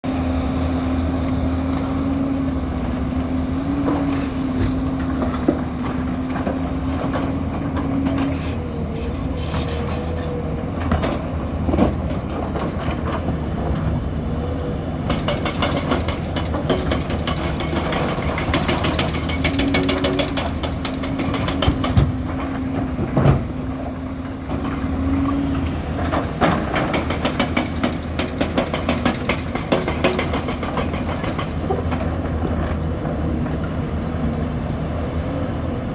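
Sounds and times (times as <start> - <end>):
heavy construction machinery running: 0.0 - 35.9.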